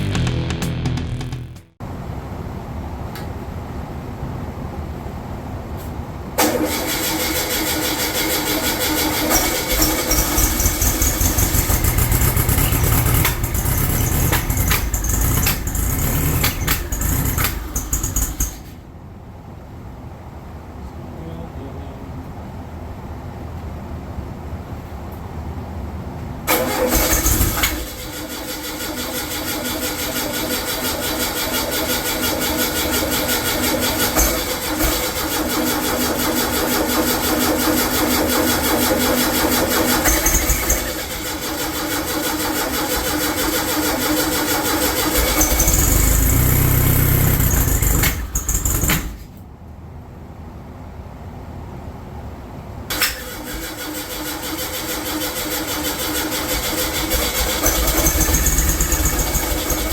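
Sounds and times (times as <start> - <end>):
air-cooled engine starting and running: 0.0 - 5.0, 6.3 - 19.1, 26.4 - 49.6, 52.9 - 59.9.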